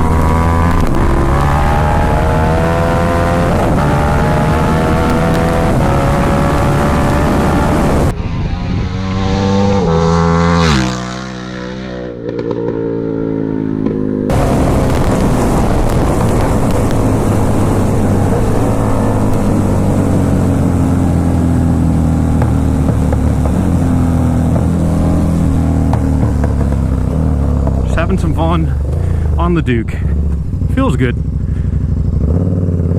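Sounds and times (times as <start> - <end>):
wind rush: 0.0 - 10.0, 14.3 - 30.7
motorcycle engine revving: 0.0 - 32.9.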